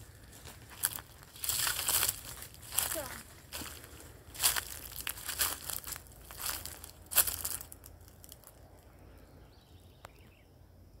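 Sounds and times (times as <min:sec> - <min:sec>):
rustling and crunching: 0:00.0 - 0:08.9.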